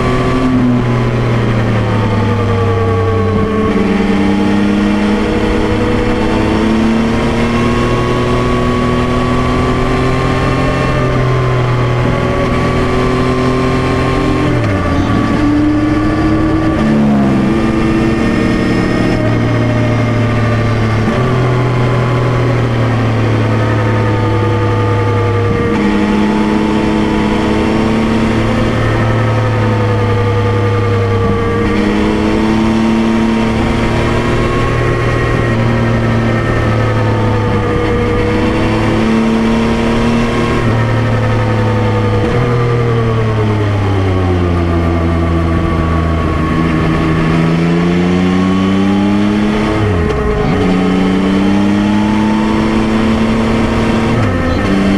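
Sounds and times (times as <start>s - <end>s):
motorcycle engine while riding: 0.0s - 54.9s.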